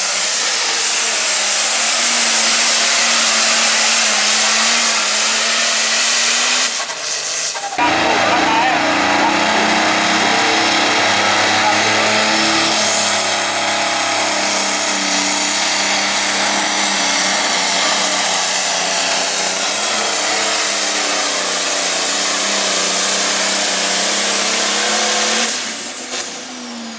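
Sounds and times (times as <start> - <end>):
diesel tractor engine under load: 0.0 - 26.9
high turbo whine: 0.0 - 26.9.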